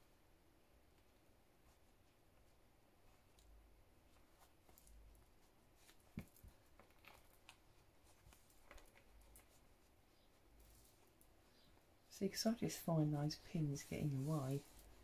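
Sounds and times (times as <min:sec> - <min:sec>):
fabric rustling: 0:00.9 - 0:15.0.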